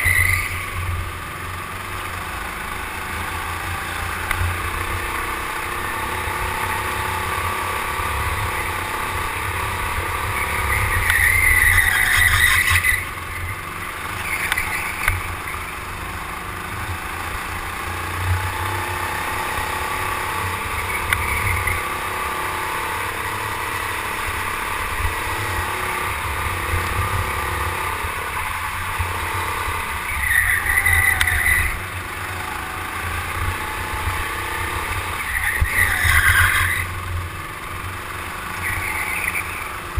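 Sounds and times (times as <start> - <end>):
go-kart engine drone: 0.0 - 39.9.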